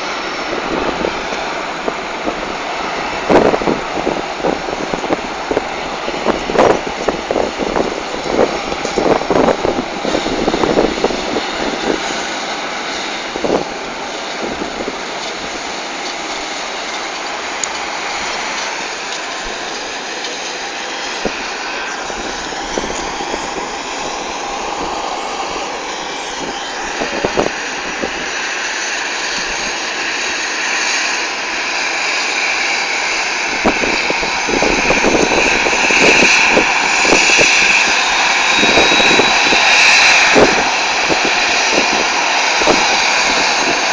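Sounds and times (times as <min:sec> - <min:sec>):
high engine whine: 0:00.0 - 0:43.9
jet engines rushing: 0:00.0 - 0:43.9.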